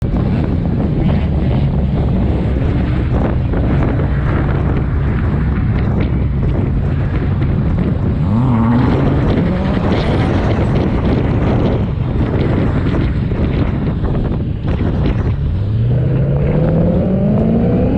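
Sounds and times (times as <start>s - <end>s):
wind buffeting on microphone: 0.0s - 17.9s
car engine revving: 0.1s - 17.9s.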